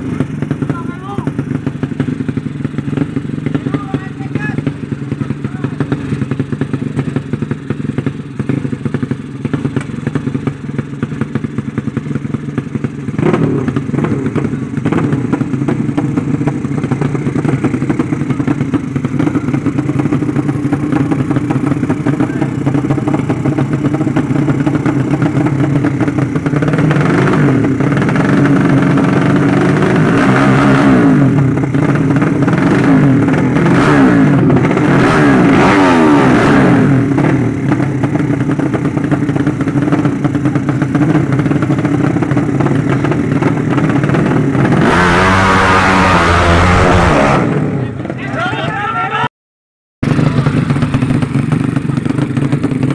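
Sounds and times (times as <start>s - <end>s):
motorcycle engines revving: 0.0s - 49.3s, 50.0s - 52.9s.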